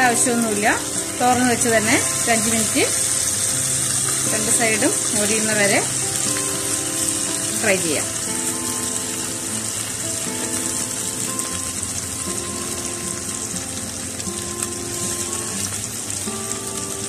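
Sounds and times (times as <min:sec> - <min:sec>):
chicken sizzling in oil: 0:00.0 - 0:17.0
soft background music: 0:00.0 - 0:17.0.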